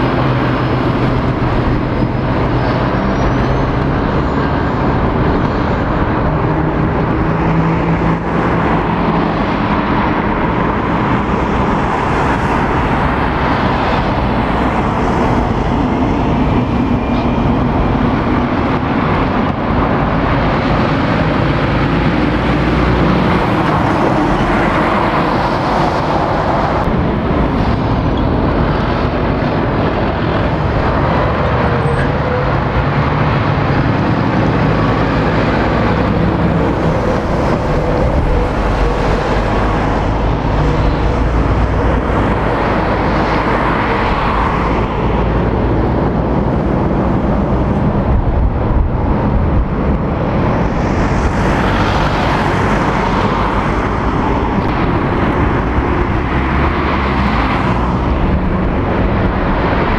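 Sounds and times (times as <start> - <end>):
cars and lorries passing: 0.0 - 59.9
diesel lorry passing: 0.0 - 59.9.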